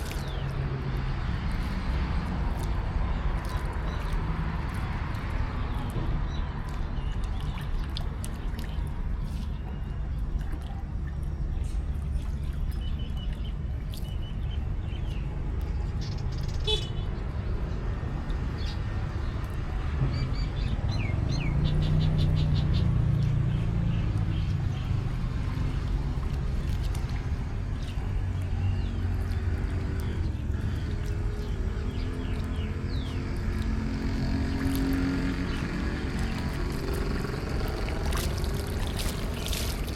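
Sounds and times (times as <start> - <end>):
vehicle engine: 0.0 - 7.6, 14.4 - 39.9
low traffic rumble: 0.0 - 39.9.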